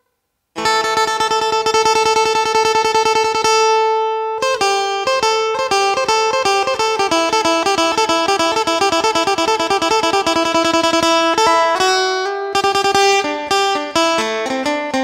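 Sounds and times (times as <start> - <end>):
plucked lute melody over drone: 0.6 - 15.0.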